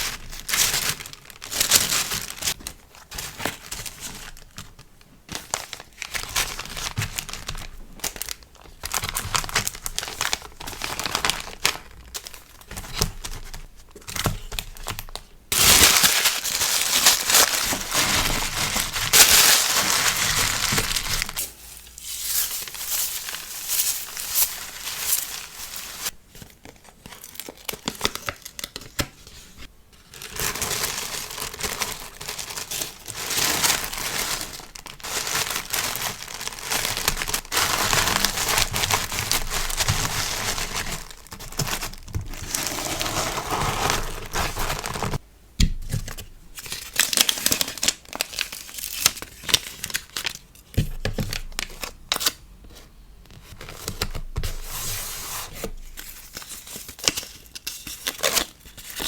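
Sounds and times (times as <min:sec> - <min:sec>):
packaging crinkling and tearing: 0:00.0 - 0:45.2, 0:45.9 - 0:52.4, 0:55.6 - 0:59.0.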